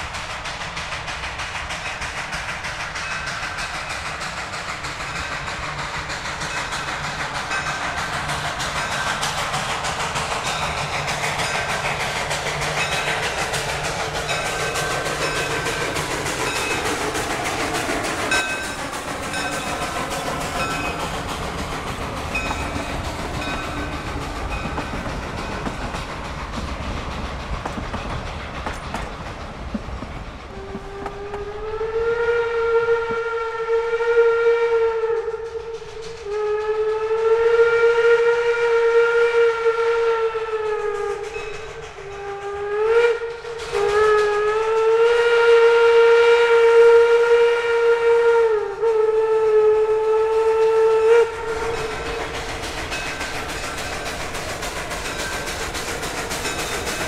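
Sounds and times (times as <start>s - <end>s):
steam noise: 0.0s - 57.0s
train wheel clatter: 0.0s - 57.0s
steam locomotive whistle: 5.0s - 25.9s, 30.5s - 57.0s.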